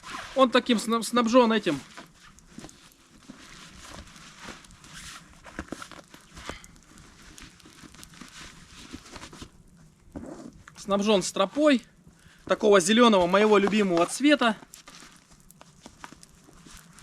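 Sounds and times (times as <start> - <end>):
fabric rustling and crinkling: 0.0 - 17.0.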